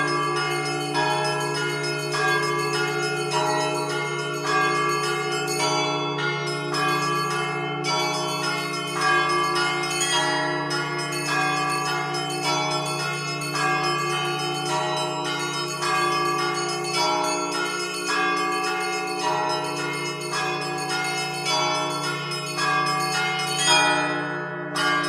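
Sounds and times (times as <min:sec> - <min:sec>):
low tones of large bells: 0:00.0 - 0:25.0
small church bells striking rapidly: 0:00.0 - 0:25.0.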